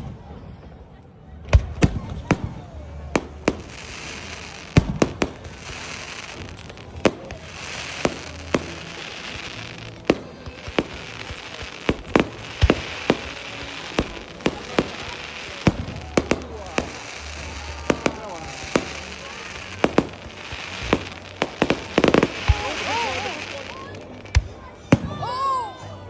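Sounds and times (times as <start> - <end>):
fireworks bangs: 1.5 - 25.4
fireworks hiss: 1.9 - 25.4.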